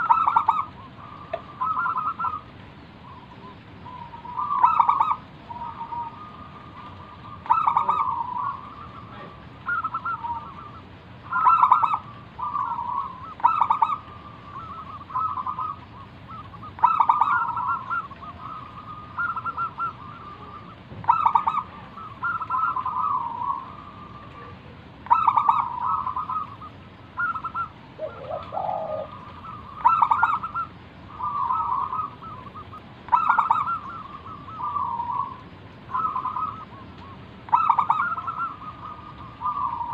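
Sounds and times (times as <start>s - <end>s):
dove cooing: 0.0s - 39.9s
low bird call: 0.0s - 39.9s.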